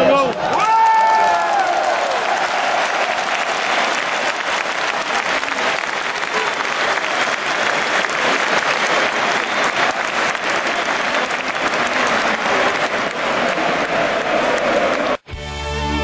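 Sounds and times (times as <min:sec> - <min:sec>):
crowd applauding: 0:00.0 - 0:15.3.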